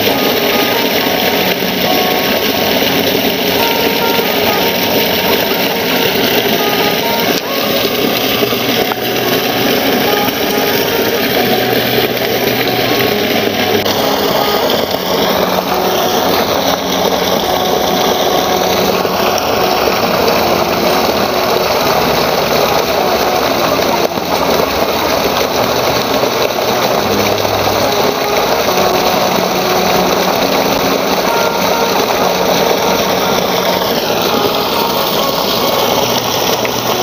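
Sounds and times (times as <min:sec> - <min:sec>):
loud machine noise: 0:00.0 - 0:37.0.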